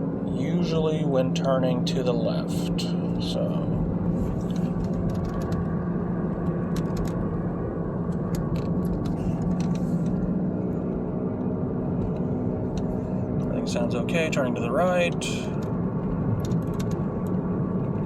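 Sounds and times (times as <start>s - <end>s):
car road and engine drone: 0.0s - 18.0s.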